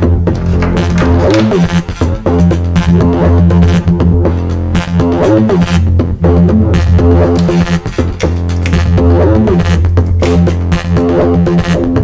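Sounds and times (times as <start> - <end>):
bouncing synth notes and clicks: 0.0 - 11.8
deep synth bass line: 0.0 - 12.0.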